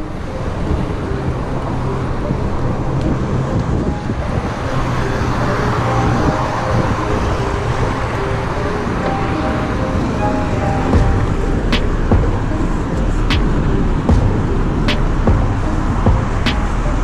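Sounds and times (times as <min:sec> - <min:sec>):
road traffic going by: 0:00.0 - 0:17.0
wind rush on microphone: 0:00.0 - 0:17.0.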